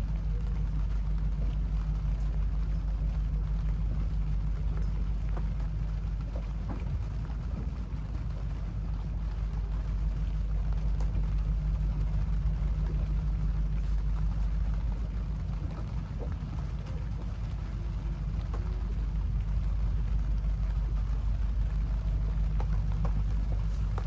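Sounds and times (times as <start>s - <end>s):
low rumble: 0.0s - 24.0s
raindrop ticks: 0.0s - 24.0s.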